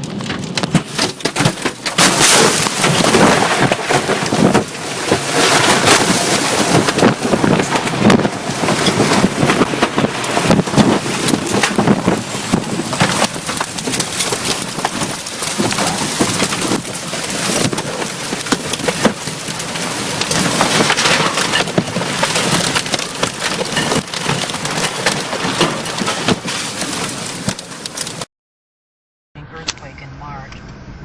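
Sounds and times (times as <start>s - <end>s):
sharp cracks and knocks: 0.0s - 28.3s
wind-driven rain pelting: 0.0s - 28.3s.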